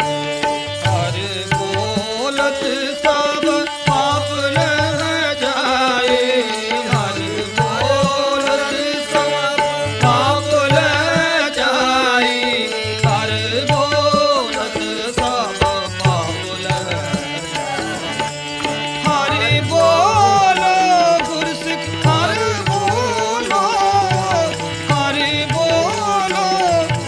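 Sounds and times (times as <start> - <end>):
harmonium melody: 0.0 - 27.0
person singing: 0.0 - 27.0
tabla drums: 0.0 - 27.0.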